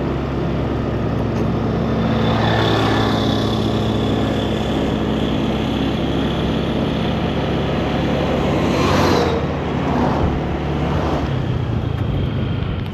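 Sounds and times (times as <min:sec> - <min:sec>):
motor scooter engine: 0:00.0 - 0:12.9
road and wind noise: 0:00.0 - 0:12.9.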